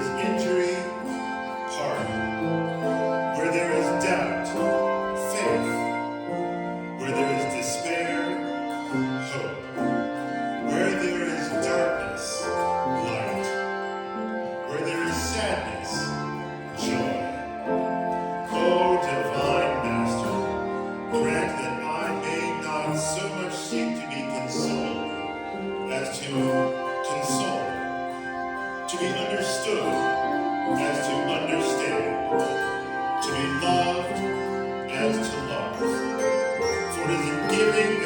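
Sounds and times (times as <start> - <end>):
handbell choir ringing: 0.0 - 38.0.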